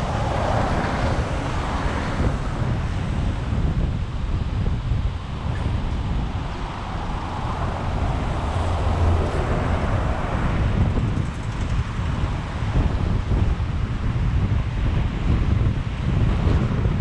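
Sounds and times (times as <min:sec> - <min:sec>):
road and tyre rumble: 0:00.0 - 0:17.0
wind buffeting microphone: 0:00.0 - 0:17.0.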